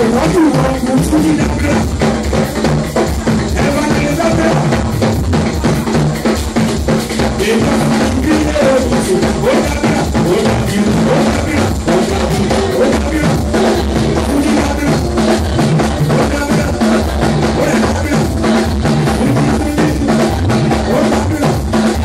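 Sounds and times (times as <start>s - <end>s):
drums: 0.0s - 22.0s
live praise music: 0.0s - 22.0s.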